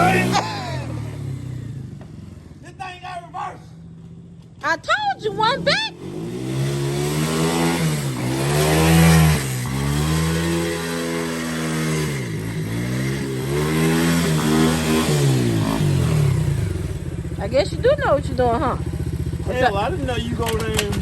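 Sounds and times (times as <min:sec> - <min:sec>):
quad bike engine revving: 0:00.0 - 0:02.6, 0:04.1 - 0:21.0.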